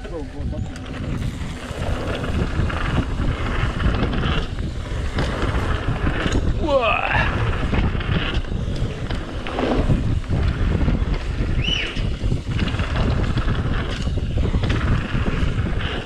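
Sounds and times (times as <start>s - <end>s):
mountain bike rumbling and rattling: 0.0s - 16.0s
wind buffeting microphone: 0.0s - 16.0s.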